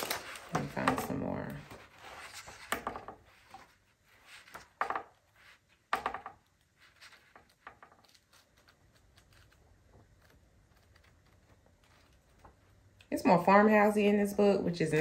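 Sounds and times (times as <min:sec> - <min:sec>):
book pages flipping: 0:00.0 - 0:13.2.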